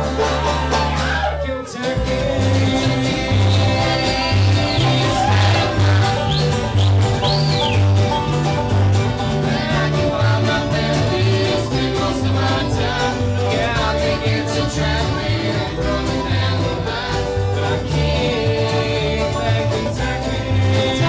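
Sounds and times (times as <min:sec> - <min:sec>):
bass alternating low notes: 0:00.0 - 0:21.0
bluegrass band playing: 0:00.0 - 0:21.0
string picking: 0:00.0 - 0:21.0.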